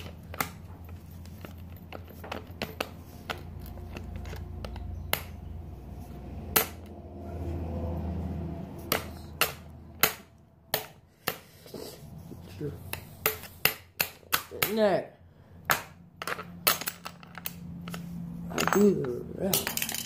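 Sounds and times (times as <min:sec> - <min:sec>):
parts clicking and knocking: 0:00.0 - 0:07.0, 0:08.8 - 0:11.6, 0:12.9 - 0:14.9, 0:15.5 - 0:20.0.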